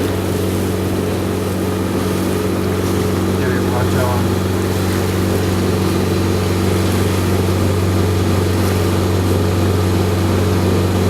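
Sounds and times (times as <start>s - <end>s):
boat motor droning: 0.0s - 11.0s
water and wind hiss: 0.0s - 11.0s.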